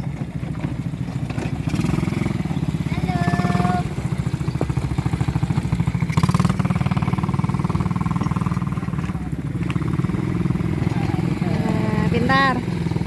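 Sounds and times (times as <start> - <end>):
small engine low putter: 0.0 - 13.0.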